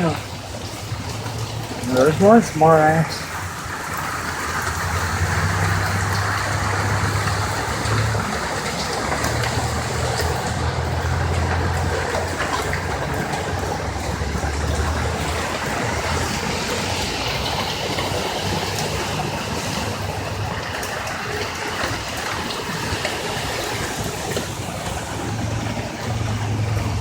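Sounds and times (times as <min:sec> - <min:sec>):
tyres ploughing through water: 0:00.0 - 0:27.0
low engine hum: 0:03.2 - 0:27.0.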